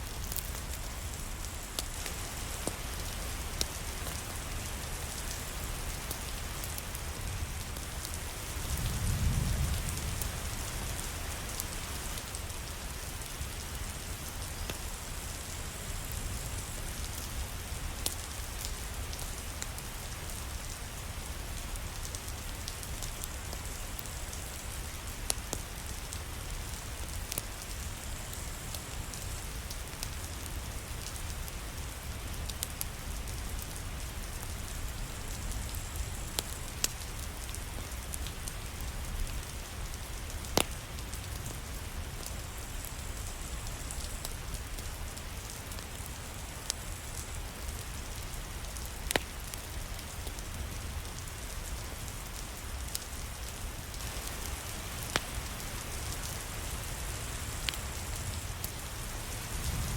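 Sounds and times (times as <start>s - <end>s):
fireplace fire crackling pops: 0.0s - 59.9s
steady rain: 0.0s - 59.9s.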